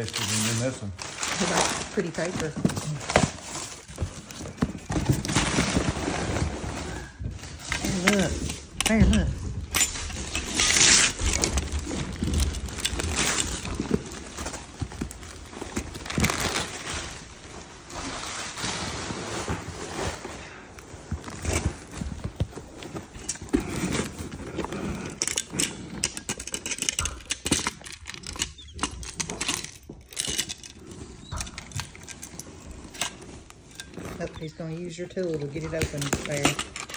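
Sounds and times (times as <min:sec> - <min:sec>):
paper rustling and crinkling: 0:00.0 - 0:36.9.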